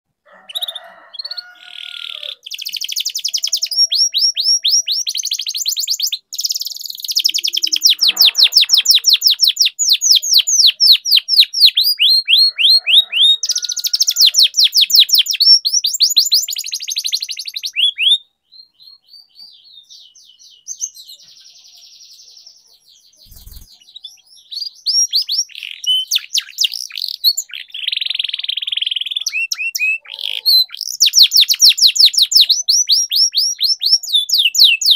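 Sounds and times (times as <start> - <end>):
canary singing trills: 0.3 - 34.9.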